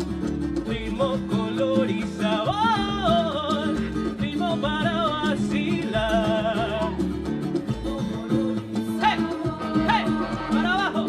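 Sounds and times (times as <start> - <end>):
rhythmic live accompaniment: 0.0 - 11.0
person singing: 0.7 - 7.2, 7.8 - 11.0.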